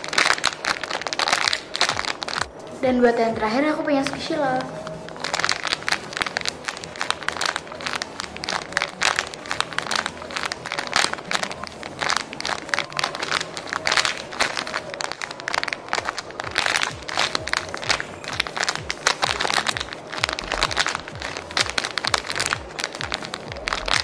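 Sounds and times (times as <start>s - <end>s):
plastic bag crinkling: 0.0s - 2.8s, 3.4s - 24.0s.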